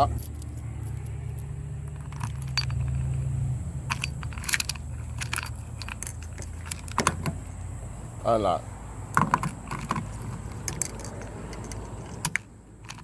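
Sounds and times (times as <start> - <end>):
keys jangling: 0.0 - 7.3, 9.2 - 13.0.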